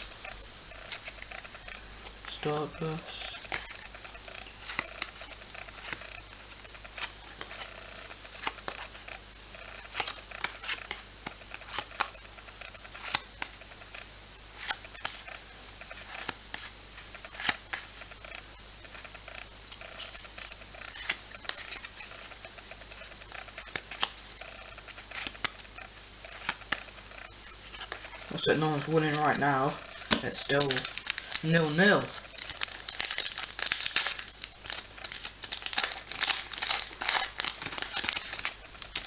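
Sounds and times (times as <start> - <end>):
cards clicking and rustling: 0.0 - 39.0.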